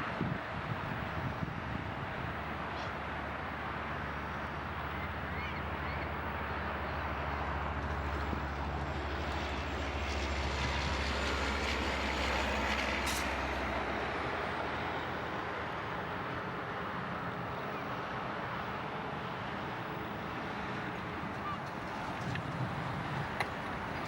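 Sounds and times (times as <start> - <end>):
passing vehicle rumble: 0.0 - 24.0.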